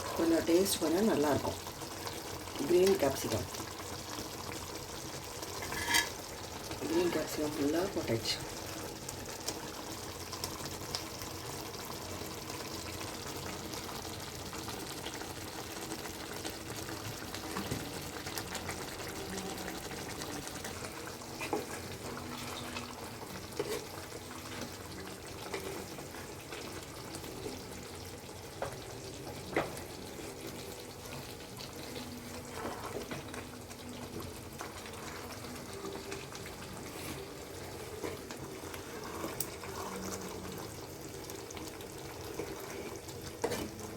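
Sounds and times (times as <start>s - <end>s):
gravy bubbling and sizzling: 0.0s - 43.9s.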